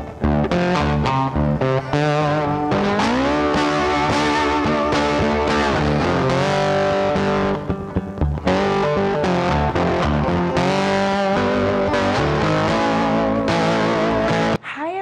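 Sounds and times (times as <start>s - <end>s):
bass line: 0.0s - 14.6s
guitar-led instrumental music: 0.0s - 14.6s.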